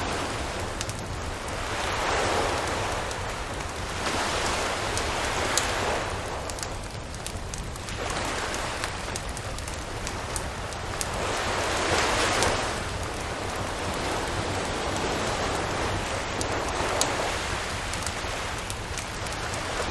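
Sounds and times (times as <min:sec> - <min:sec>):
campfire crackling and popping: 0:00.0 - 0:19.9
waves washing onto shore: 0:00.0 - 0:19.9.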